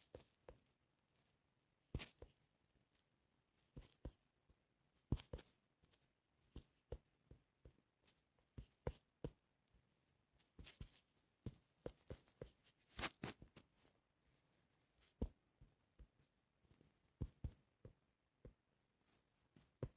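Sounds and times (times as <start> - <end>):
faint clicks and taps: 3.6 - 19.9.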